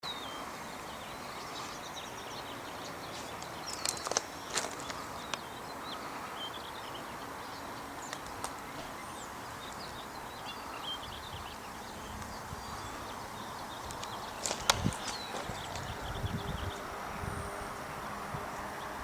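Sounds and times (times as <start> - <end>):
distant songbirds chirping: 0.0 - 19.0
steady outdoor noise: 0.0 - 19.0.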